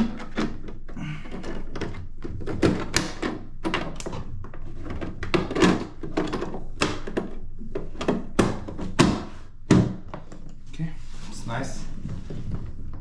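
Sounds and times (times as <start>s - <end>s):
plastic knocks and thunks: 0.0s - 10.4s.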